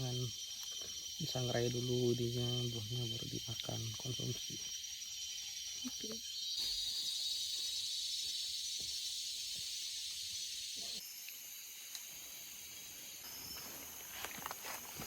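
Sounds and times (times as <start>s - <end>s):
insect chorus high-pitched hiss: 0.0s - 15.0s.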